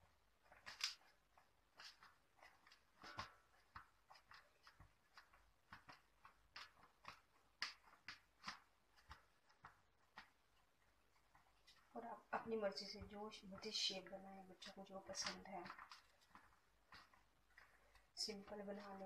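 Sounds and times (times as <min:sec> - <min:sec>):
hands squishing food mixture: 0:00.0 - 0:19.0.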